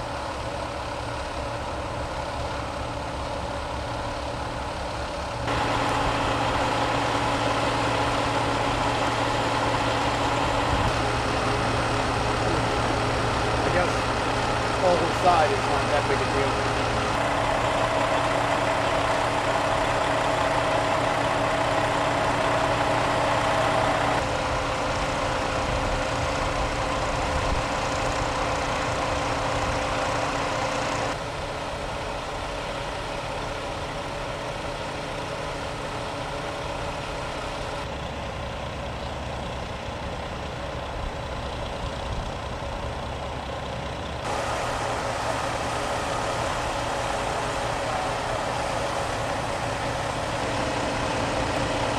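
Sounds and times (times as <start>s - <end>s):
fire engine diesel idling: 0.0s - 51.9s.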